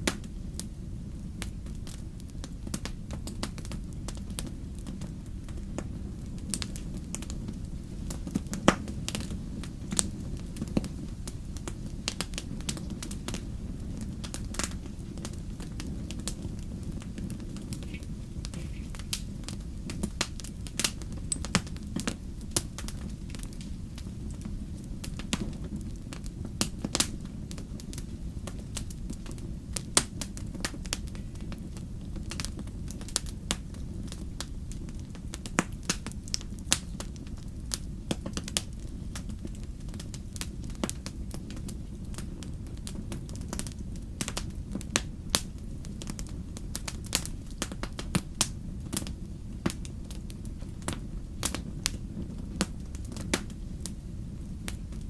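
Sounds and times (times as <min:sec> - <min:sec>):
steady low rumble: 0:00.0 - 0:55.0
wood fire crackling and popping: 0:00.0 - 0:55.0.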